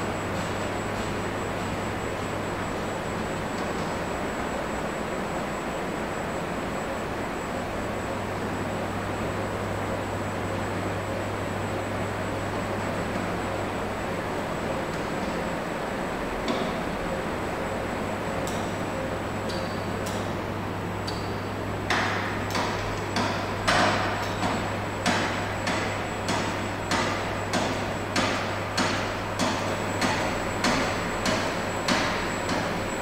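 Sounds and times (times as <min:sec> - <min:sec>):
mechanism knocking rhythmically: 0:00.0 - 0:05.7, 0:10.0 - 0:33.0.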